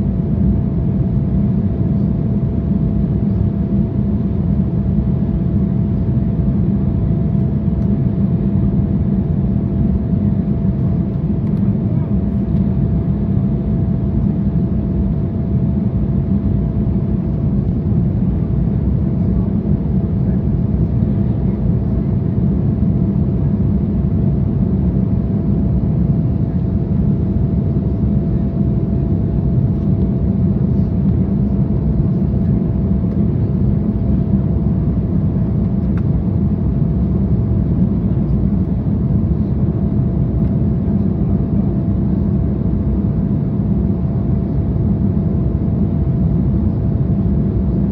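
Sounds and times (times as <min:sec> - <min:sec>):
jet engine cabin rumble: 0:00.0 - 0:47.9.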